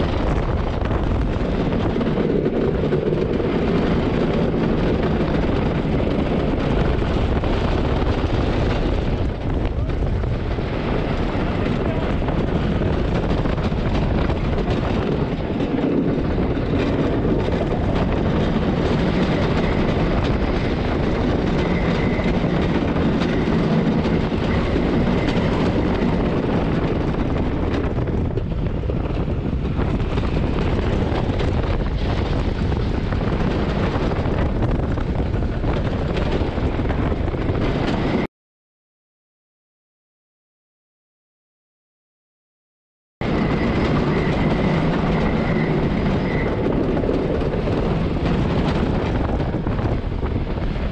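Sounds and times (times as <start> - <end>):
roller coaster rumbling on wooden track: 0.0 - 38.3, 43.2 - 50.9.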